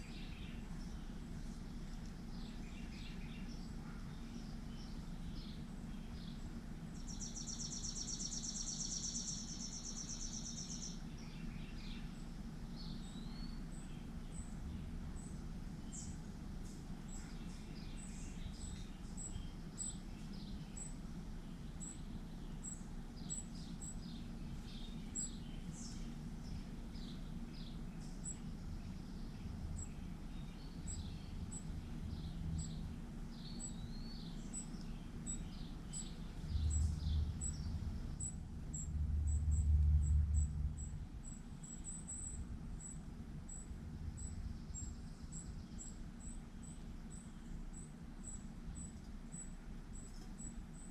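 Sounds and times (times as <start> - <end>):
songbirds chirping: 0.0 - 50.9
steady low hum: 0.0 - 50.9.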